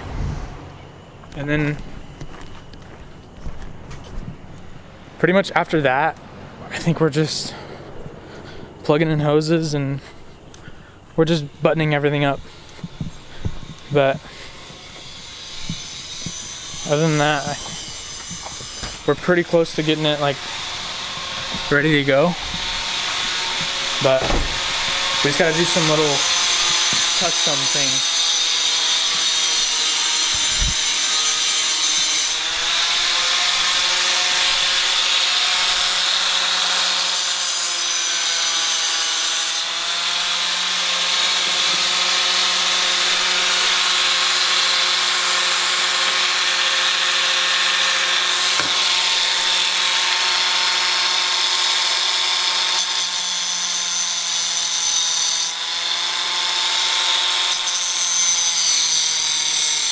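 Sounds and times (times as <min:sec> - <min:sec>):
power tool whining: 0:10.0 - 0:59.9.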